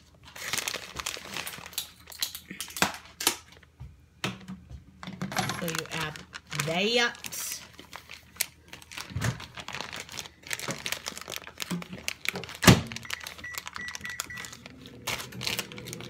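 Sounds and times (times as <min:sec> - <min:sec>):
plastic bag crinkling: 0:00.0 - 0:03.2, 0:05.6 - 0:16.0.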